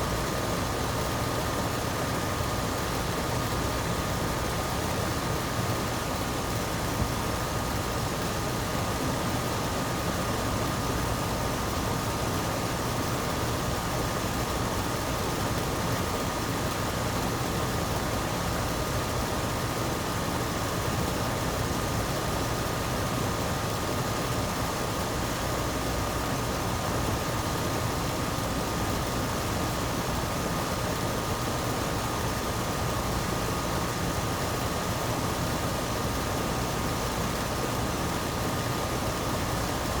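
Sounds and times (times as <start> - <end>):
air conditioner fan running: 0.0 - 40.0.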